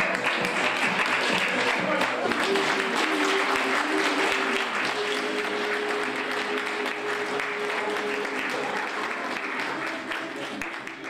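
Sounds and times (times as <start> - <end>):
audience applauding: 0.0 - 11.0
music holding long notes: 0.0 - 11.0.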